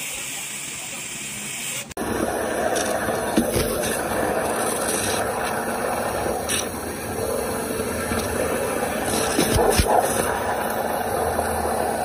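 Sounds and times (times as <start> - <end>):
waterjet cutter rushing: 0.0 - 12.0.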